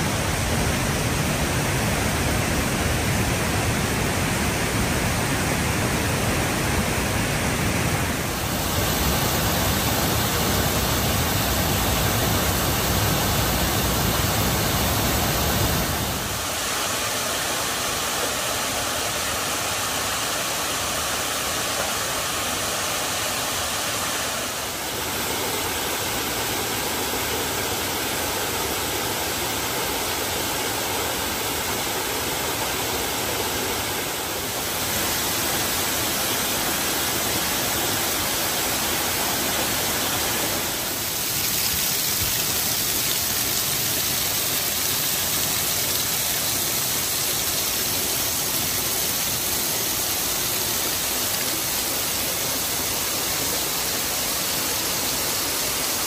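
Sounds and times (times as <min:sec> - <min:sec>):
waterfall splashing onto rocks: 0:08.2 - 0:56.0.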